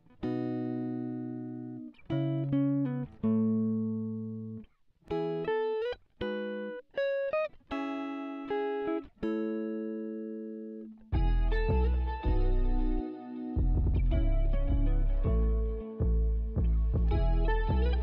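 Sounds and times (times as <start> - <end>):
clean guitar plucked notes: 0.0 - 18.0.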